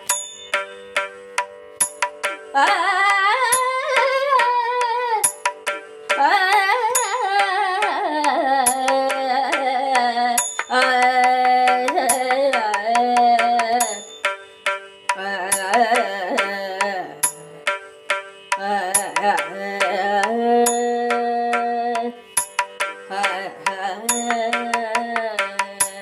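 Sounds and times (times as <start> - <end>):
gliding melodic line: 0.0 - 26.0
hand drum strokes: 0.0 - 26.0.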